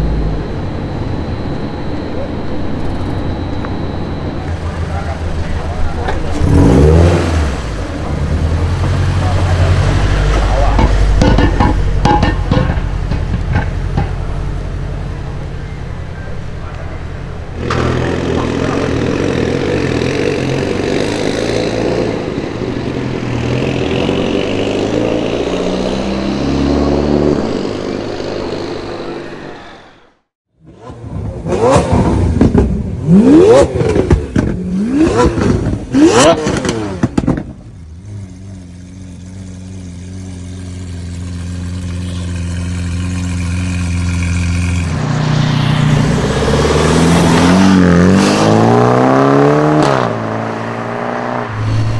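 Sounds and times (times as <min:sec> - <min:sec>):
exhaust cracks: 0:00.0 - 0:30.1, 0:30.9 - 0:51.9
car approaching: 0:00.0 - 0:30.3, 0:31.0 - 0:51.9
car engine revving: 0:00.0 - 0:30.3, 0:31.0 - 0:51.9.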